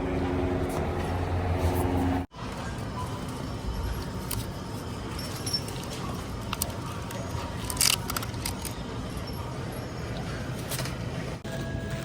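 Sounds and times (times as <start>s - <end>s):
ambient background noise: 0.0s - 12.0s.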